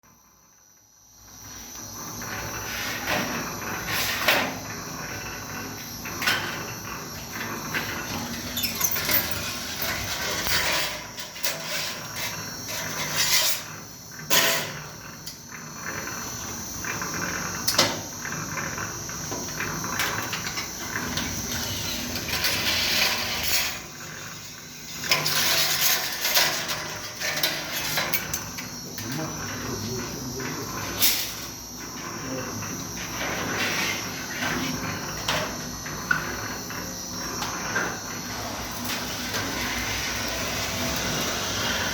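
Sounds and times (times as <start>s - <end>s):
machine high whine: 0.1s - 41.9s.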